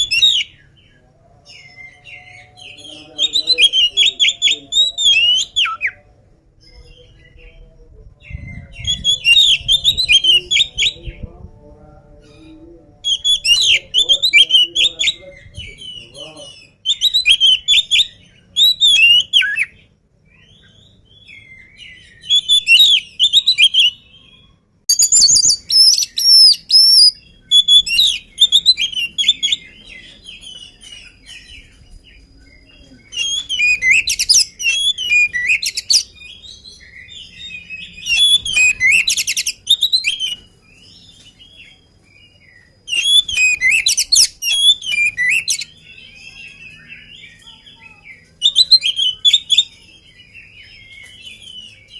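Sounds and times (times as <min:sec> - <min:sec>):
bird singing whistles and chatters: 0:00.0 - 0:11.4, 0:12.2 - 0:51.9.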